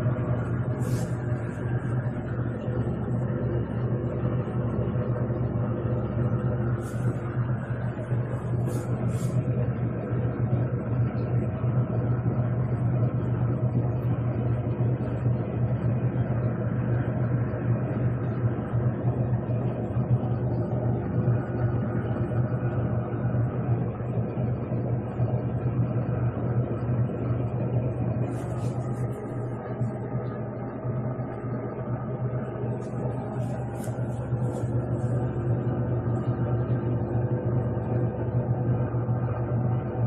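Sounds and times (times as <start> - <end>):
washing machine motor hum: 0.0 - 40.0.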